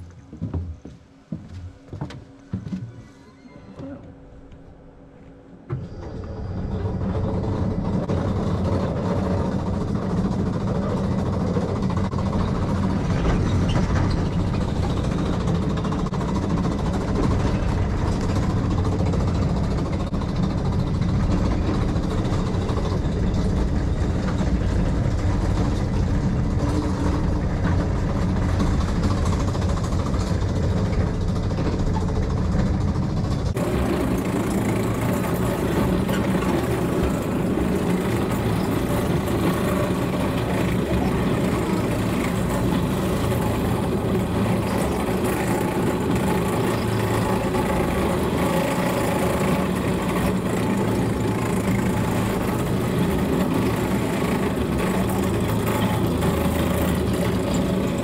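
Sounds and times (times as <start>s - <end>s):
monorail car engine running: 0.0s - 58.0s.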